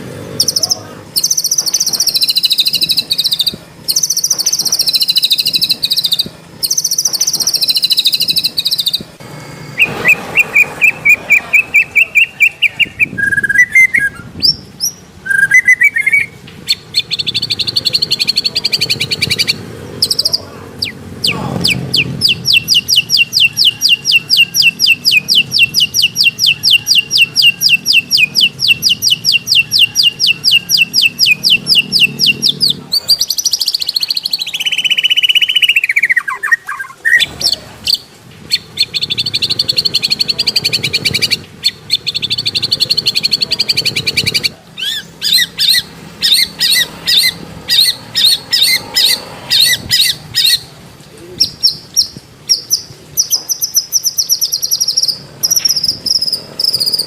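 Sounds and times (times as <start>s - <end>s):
recorded songbird song: 0.0s - 57.0s.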